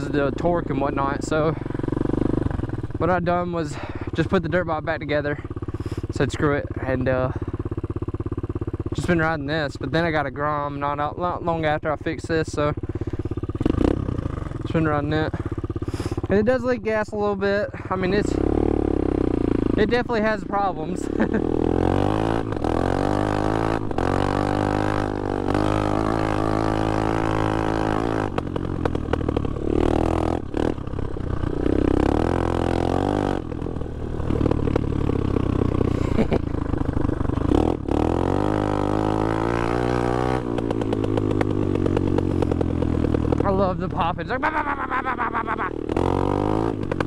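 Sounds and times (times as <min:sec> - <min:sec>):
dirt bike engine revving: 0:00.0 - 0:16.6, 0:17.7 - 0:47.0
exhaust popping: 0:00.0 - 0:47.0.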